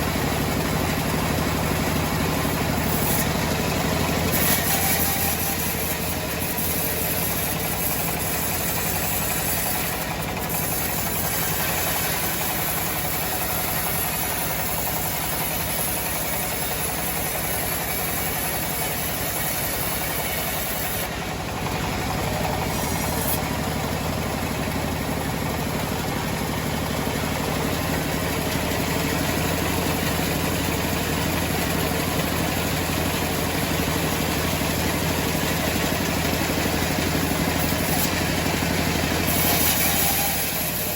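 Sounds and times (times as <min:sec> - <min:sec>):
sawmill engine drone: 0:00.0 - 0:40.9.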